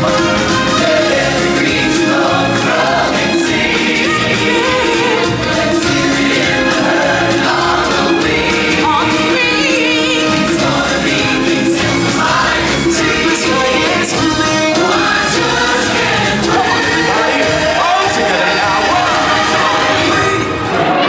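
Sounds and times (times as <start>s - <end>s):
choir singing: 0.0s - 21.0s
live band playing: 0.0s - 21.0s.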